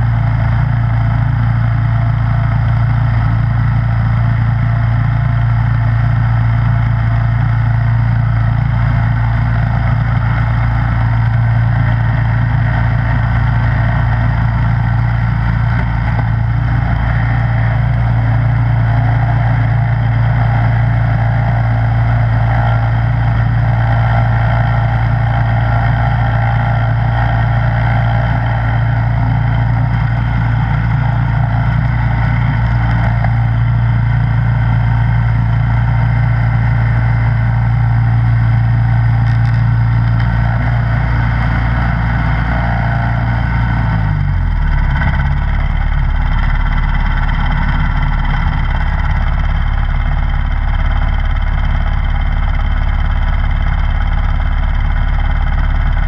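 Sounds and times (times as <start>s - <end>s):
snowblower engine droning: 0.0s - 56.0s.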